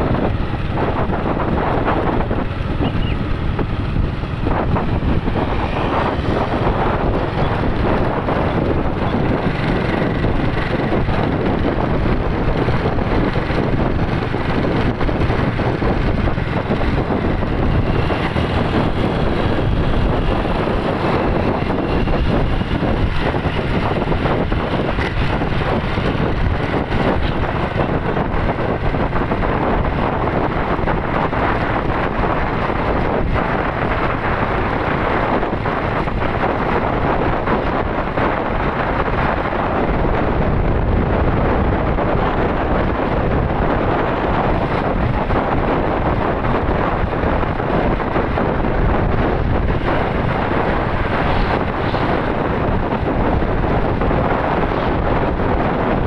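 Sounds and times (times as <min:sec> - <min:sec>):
road noise: 0:00.0 - 0:56.0
wind rushing over microphone: 0:00.0 - 0:56.0.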